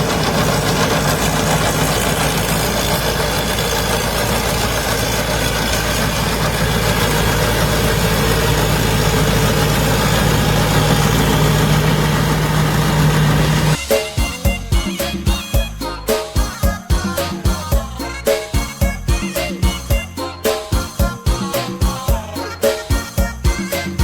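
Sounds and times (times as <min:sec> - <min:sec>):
combine harvester engine idling: 0:00.0 - 0:24.0.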